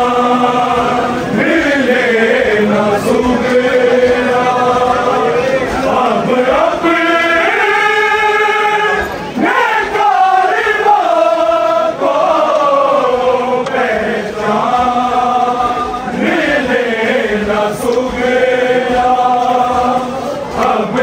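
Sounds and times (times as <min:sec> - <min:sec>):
voices chanting a lament: 0:00.0 - 0:21.0.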